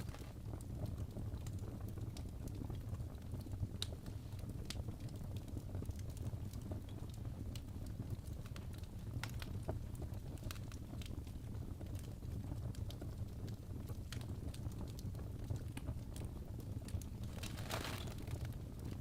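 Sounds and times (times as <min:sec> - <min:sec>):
fireplace crackling and popping: 0:00.0 - 0:19.0.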